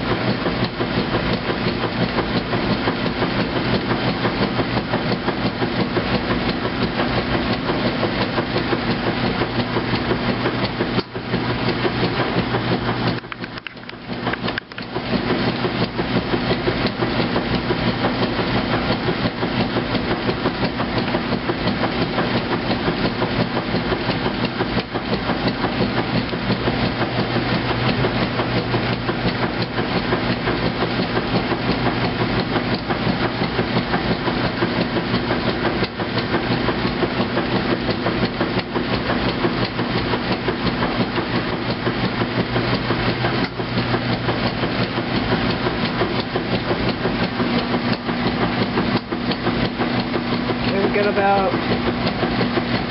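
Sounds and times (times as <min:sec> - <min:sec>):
washing machine agitating: 0:00.0 - 0:52.9.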